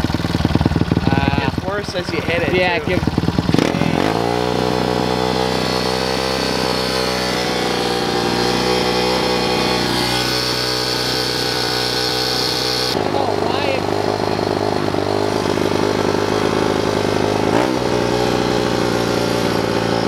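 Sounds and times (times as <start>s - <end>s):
pit bike engine running: 0.0s - 20.0s.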